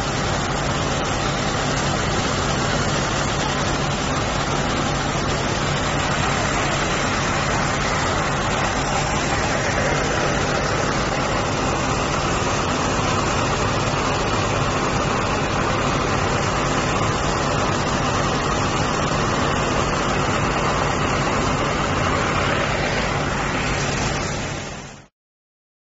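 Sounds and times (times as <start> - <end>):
diesel engine low hum: 0.0 - 25.1
loud rushing of sand pump: 0.0 - 25.1.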